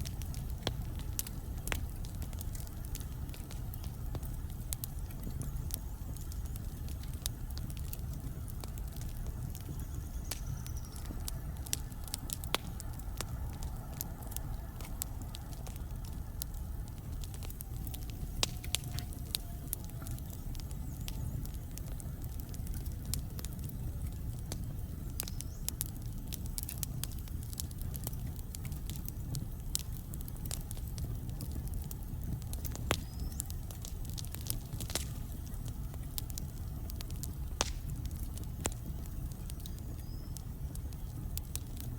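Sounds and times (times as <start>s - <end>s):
logs crackling in fireplace: 0.0s - 41.9s
low rumble of flames: 0.0s - 41.9s.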